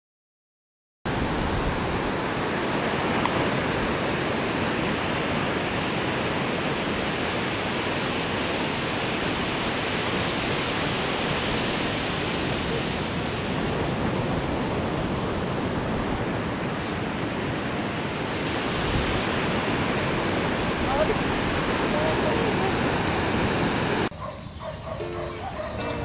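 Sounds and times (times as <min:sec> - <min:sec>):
ocean surf on beach: 0:01.1 - 0:24.1.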